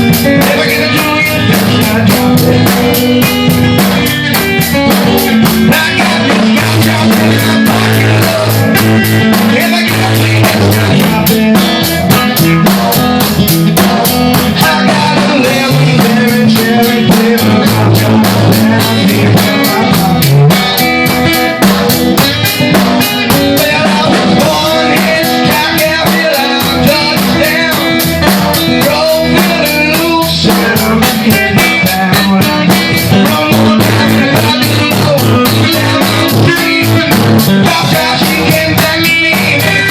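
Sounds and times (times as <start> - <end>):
drum kit beat: 0.0 - 39.9
electric guitar: 0.0 - 39.9.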